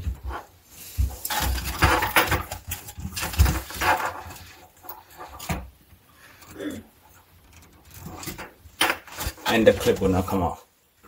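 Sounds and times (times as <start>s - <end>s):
plastic tubing rustling: 0.0s - 10.6s.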